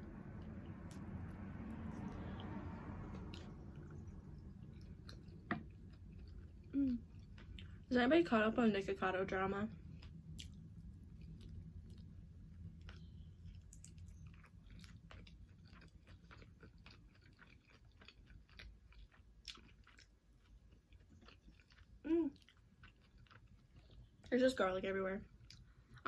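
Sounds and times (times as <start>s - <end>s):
person chewing: 0.2s - 7.9s, 9.7s - 24.3s, 25.3s - 26.0s.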